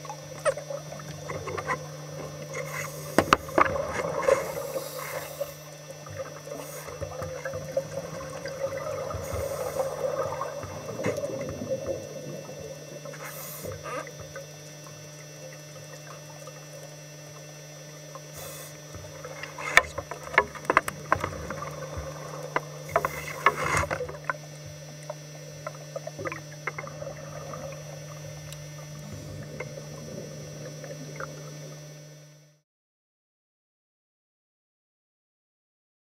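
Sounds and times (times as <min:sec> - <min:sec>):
low camera hum: 0:00.0 - 0:32.6
scuba exhaust bubbles hissing: 0:00.0 - 0:32.6.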